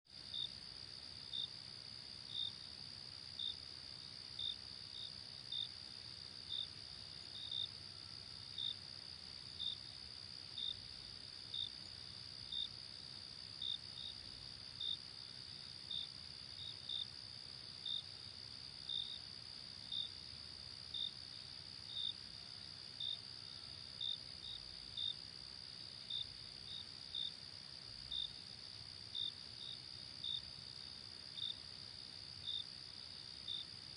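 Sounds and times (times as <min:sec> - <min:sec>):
loud cricket chirp: 0:00.2 - 0:33.9.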